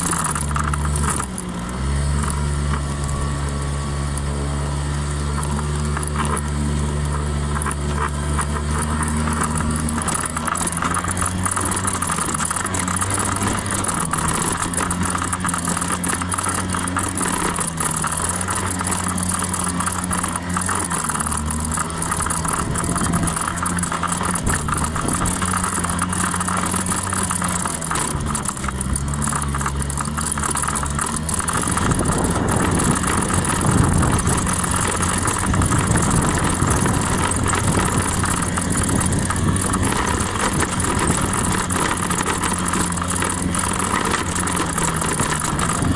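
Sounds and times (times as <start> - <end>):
scooter engine running: 0.0 - 45.9.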